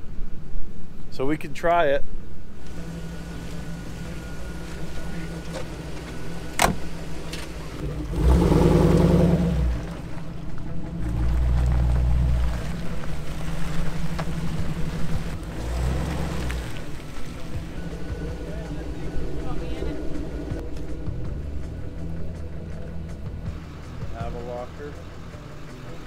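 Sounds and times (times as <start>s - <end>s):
vehicle engine running: 2.4s - 26.0s.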